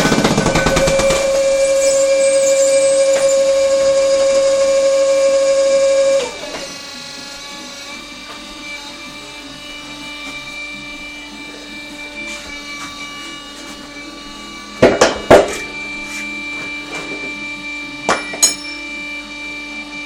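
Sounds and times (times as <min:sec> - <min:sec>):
tyre changer mechanical whine: 0:00.0 - 0:20.0.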